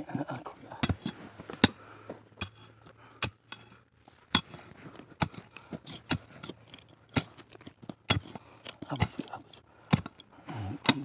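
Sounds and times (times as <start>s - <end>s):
digging tool striking stony soil: 0.1s - 11.0s.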